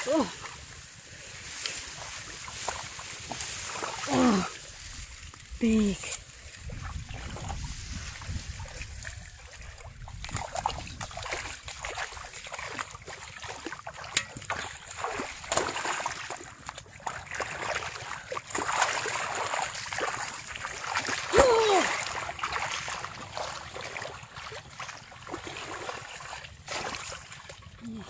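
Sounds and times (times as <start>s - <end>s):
muddy water splashing: 0.0s - 28.0s.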